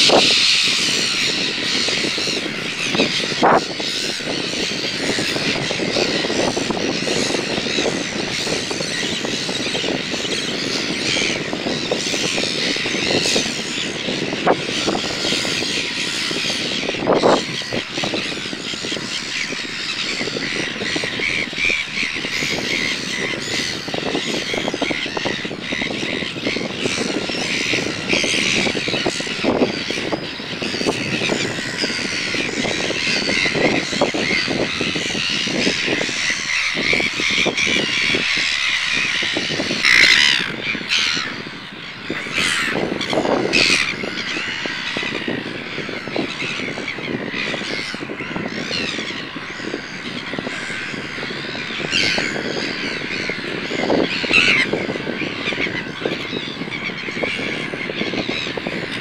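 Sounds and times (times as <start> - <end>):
gull colony calling: 0.0 - 59.0.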